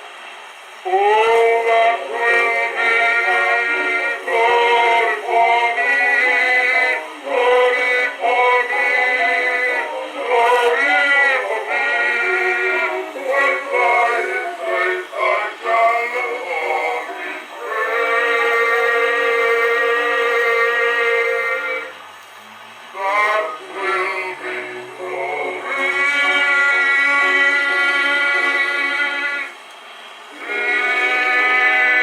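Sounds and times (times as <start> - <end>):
gramophone man singing hymn: 0.8 - 22.0, 22.9 - 29.6, 30.3 - 32.0.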